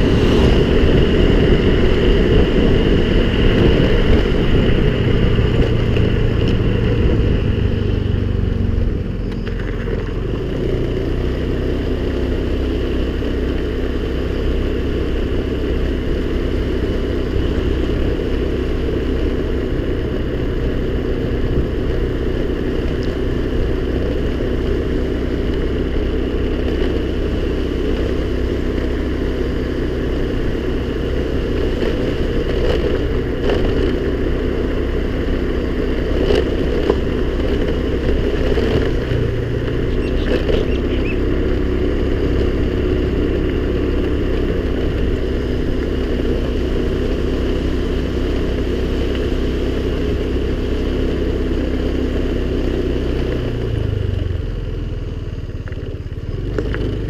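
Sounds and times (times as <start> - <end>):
scooter engine running: 0.0 - 57.0.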